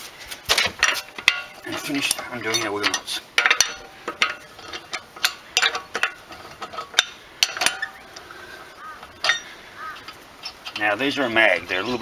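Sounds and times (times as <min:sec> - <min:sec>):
wheel brace clicking on wheel nuts: 0:00.4 - 0:12.0.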